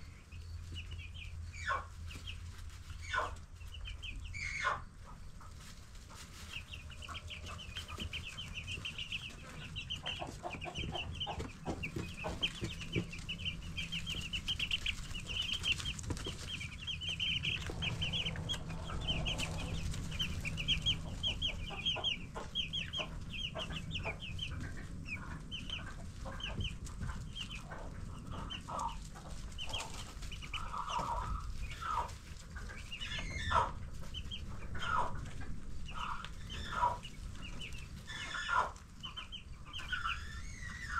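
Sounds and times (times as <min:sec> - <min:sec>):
chicks peeping: 0:00.0 - 0:40.9
low steady hum: 0:00.0 - 0:40.9.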